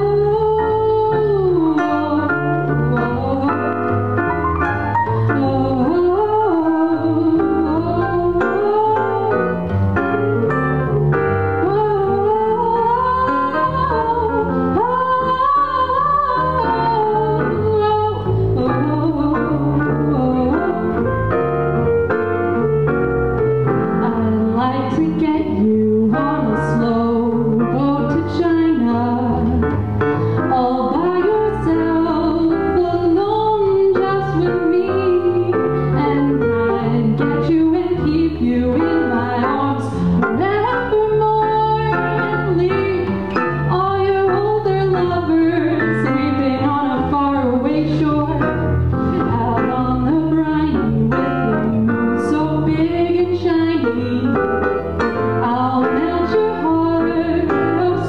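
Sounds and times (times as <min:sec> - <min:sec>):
woman singing: 0:00.0 - 0:04.0, 0:05.1 - 0:09.7, 0:10.8 - 0:21.1, 0:24.0 - 0:29.7, 0:30.4 - 0:54.7, 0:55.3 - 0:58.0
electric keyboard: 0:00.0 - 0:24.6, 0:25.2 - 0:58.0
double bass: 0:00.0 - 0:58.0.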